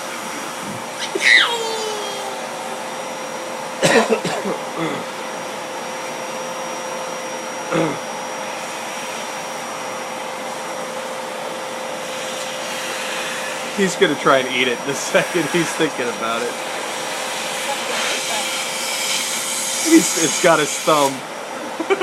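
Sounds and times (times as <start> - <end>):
vacuum cleaner motor running: 0.0 - 22.0.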